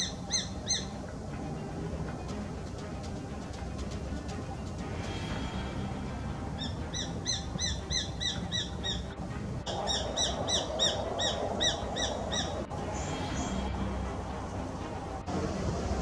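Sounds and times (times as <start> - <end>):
hawk calling high notes: 0.0 - 3.8, 5.2 - 15.3.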